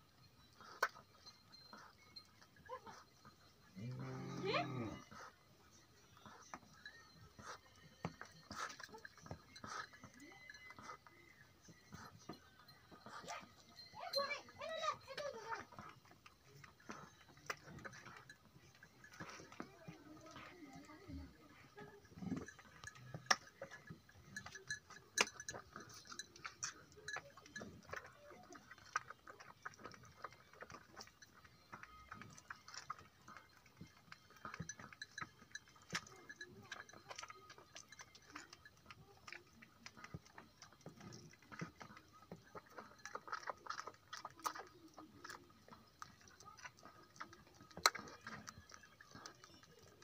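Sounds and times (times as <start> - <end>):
calf suckling wet smacking: 5.0 - 50.0.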